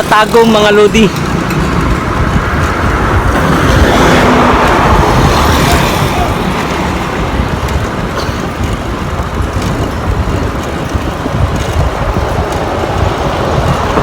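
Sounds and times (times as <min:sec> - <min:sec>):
road traffic noise: 0:00.0 - 0:14.0
wind buffeting microphone: 0:00.0 - 0:14.0.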